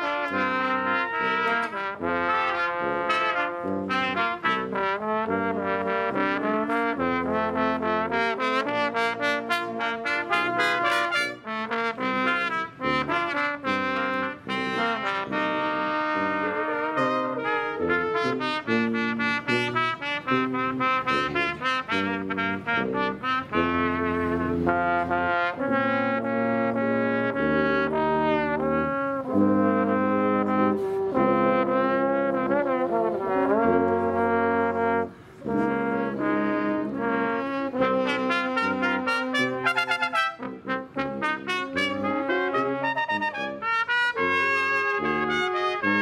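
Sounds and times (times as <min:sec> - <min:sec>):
brass quintet playing: 0:00.0 - 0:46.0
tuba bass line: 0:00.0 - 0:46.0.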